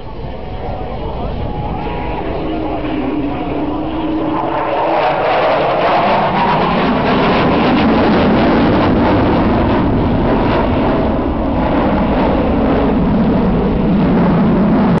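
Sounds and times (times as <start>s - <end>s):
jet engine roar overhead: 0.0s - 15.0s.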